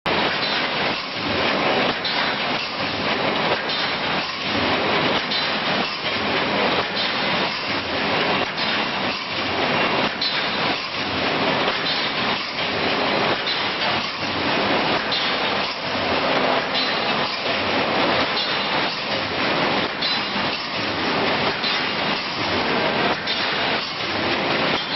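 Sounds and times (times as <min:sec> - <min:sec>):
welding machine clattering: 0:00.3 - 0:24.9.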